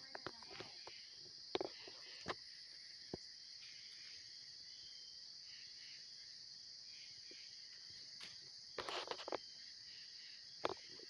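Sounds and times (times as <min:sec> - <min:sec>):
chorus of night insects: 0:00.0 - 0:11.0.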